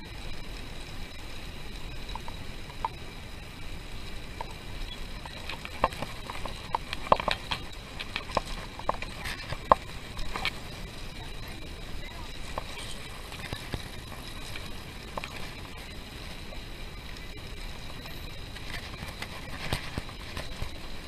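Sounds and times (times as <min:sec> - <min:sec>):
bicycle tyre noise: 0:00.0 - 0:21.0
faint high whine: 0:00.0 - 0:21.0.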